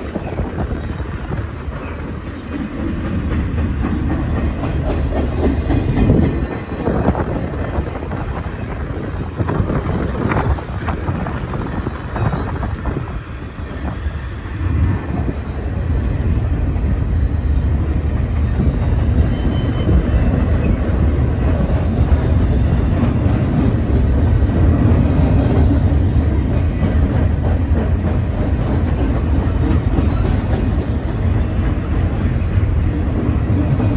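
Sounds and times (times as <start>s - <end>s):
freight train rumbling past: 0.0s - 33.9s
wind buffeting microphone: 0.0s - 33.9s.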